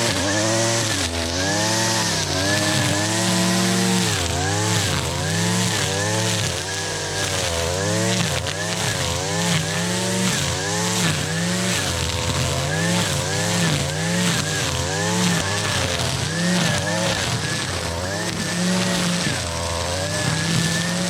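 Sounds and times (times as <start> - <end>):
string trimmer cutting grass: 0.0 - 21.0.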